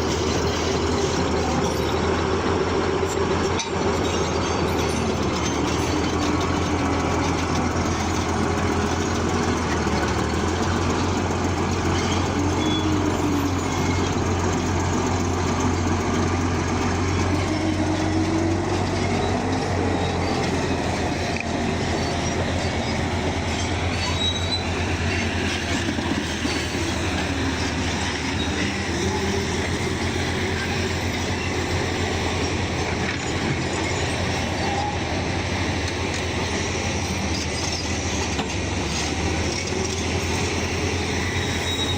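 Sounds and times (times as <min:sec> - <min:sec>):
diesel engine drone: 0:00.0 - 0:41.9
whining tone: 0:03.0 - 0:41.9.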